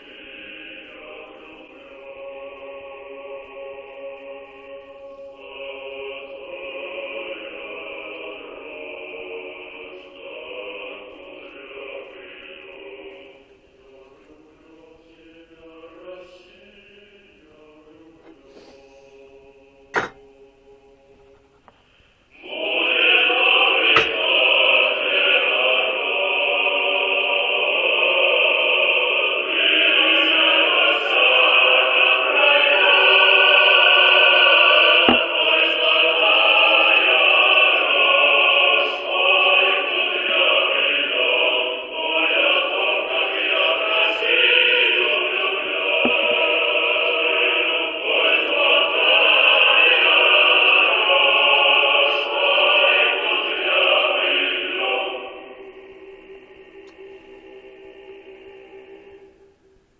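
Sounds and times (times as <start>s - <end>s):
choir singing held notes: 0.0s - 59.9s.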